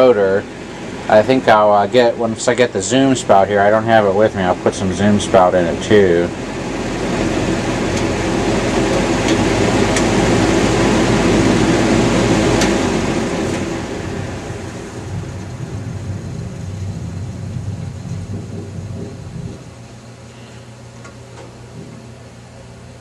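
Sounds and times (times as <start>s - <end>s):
box fan running: 0.0s - 23.0s.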